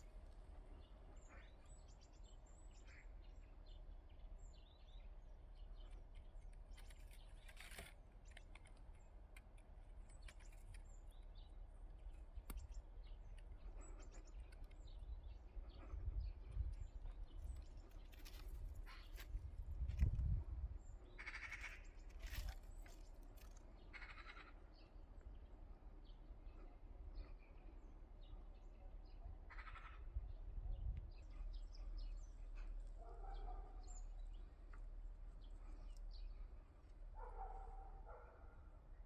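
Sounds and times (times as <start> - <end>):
birds chirping: 0.0 - 19.3, 20.8 - 39.0.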